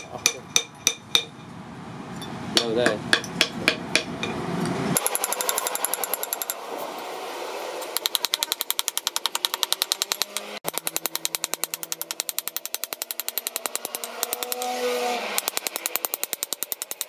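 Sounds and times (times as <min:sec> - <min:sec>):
hammer striking metal file: 0:00.0 - 0:01.5, 0:02.5 - 0:04.4, 0:05.0 - 0:06.6, 0:07.8 - 0:17.0.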